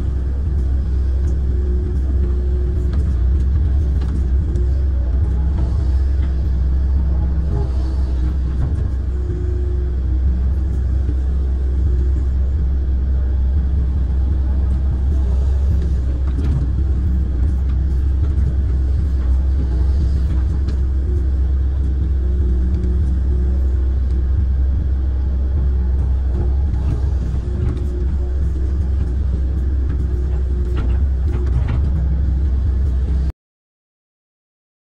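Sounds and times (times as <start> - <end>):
excavator diesel engine rumble: 0.0 - 33.3
faint higher hum: 0.0 - 33.3.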